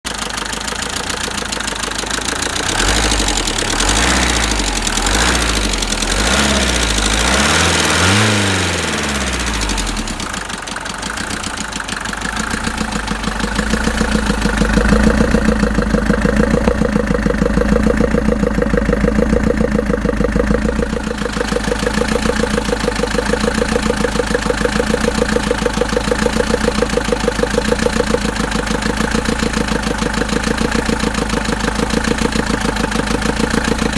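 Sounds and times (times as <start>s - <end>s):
engine knock: 0.0s - 33.9s
diesel engine revving and idling: 0.1s - 33.9s.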